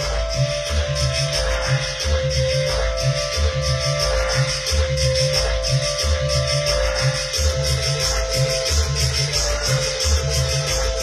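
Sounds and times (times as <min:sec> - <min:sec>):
heavy bass beat: 0:00.0 - 0:11.0
loud latin dance music: 0:00.0 - 0:11.0.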